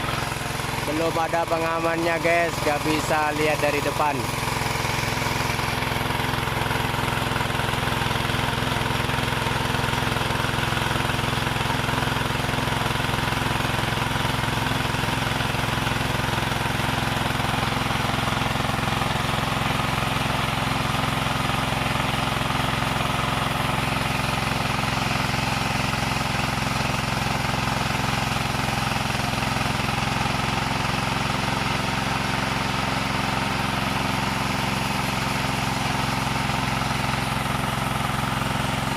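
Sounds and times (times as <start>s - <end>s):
wood saw motor drone: 0.0s - 38.9s.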